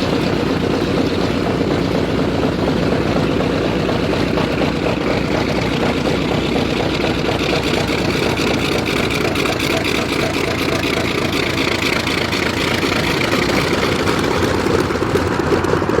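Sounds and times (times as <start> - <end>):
piston aircraft engines running: 0.0 - 16.0.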